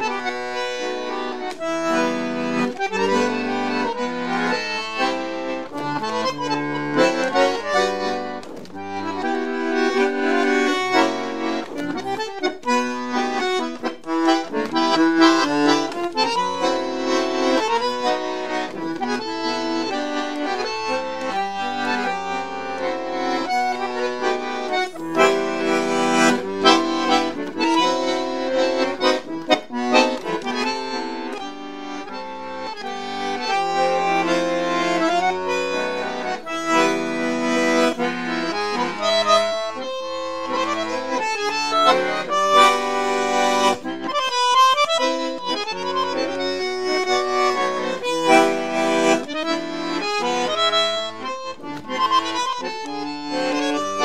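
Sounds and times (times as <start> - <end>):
bandoneon folk song: 0.0 - 54.0.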